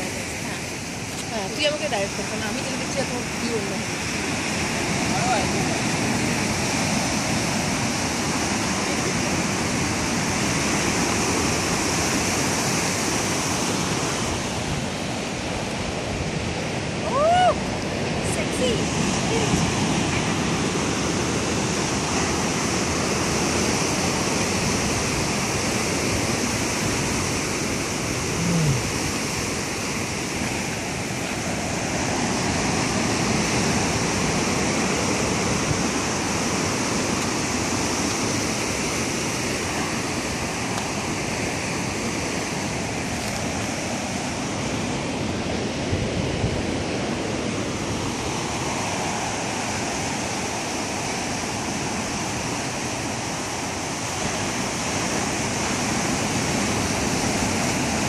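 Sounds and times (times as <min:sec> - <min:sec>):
surf breaking on pebbly shore: 0:00.0 - 0:58.0.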